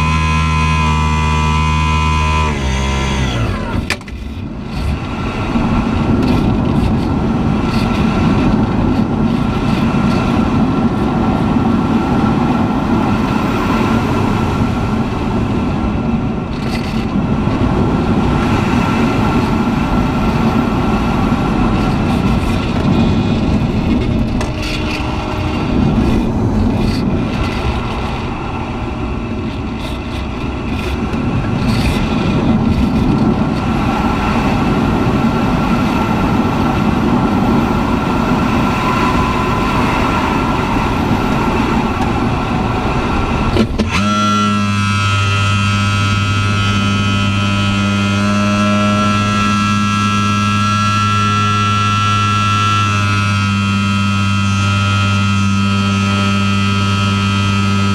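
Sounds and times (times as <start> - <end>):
air rushing over glider: 2.4 - 56.9.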